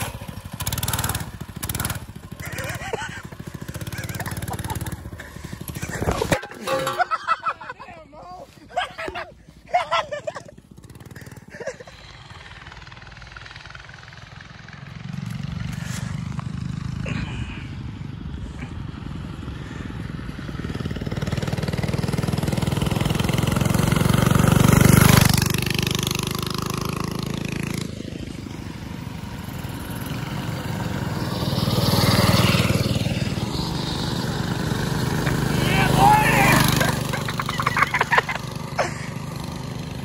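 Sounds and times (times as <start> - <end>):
mini bike engine passing: 0.0 - 7.8, 8.7 - 40.0.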